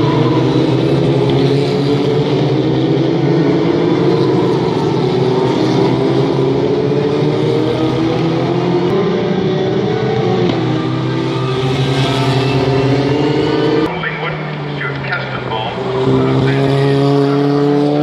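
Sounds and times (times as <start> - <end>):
race car engines accelerating: 0.0 - 18.0.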